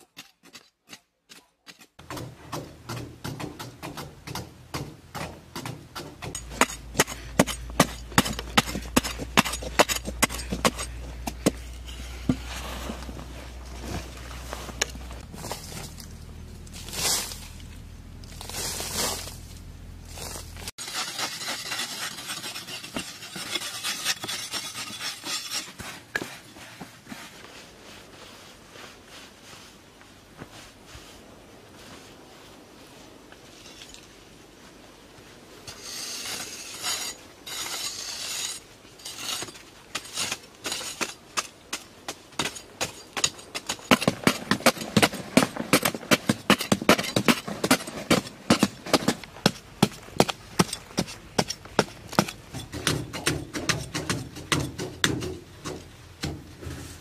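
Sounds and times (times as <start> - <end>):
blades scraping soil: 5.2 - 29.8, 31.9 - 54.8.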